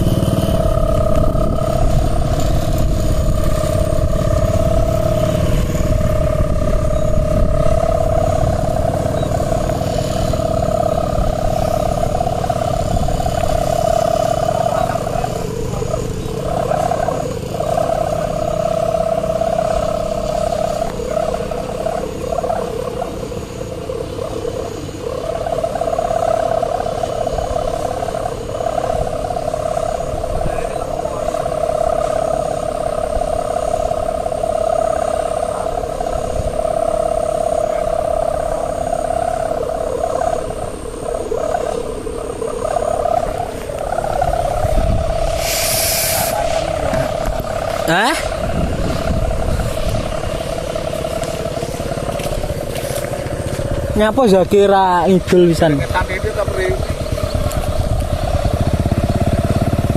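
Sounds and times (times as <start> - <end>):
kite humming in wind: 0.0 - 59.9
wind rumble on microphone: 0.0 - 59.9.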